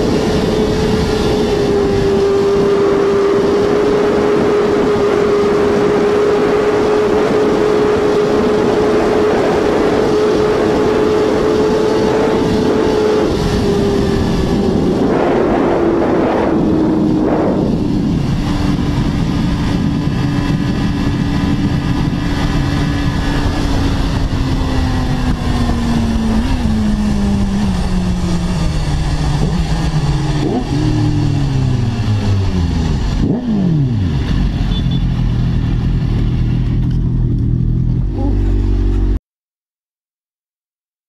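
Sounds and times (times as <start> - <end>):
wind rush: 0.0 - 38.4
motorcycle engine revving: 0.0 - 39.2.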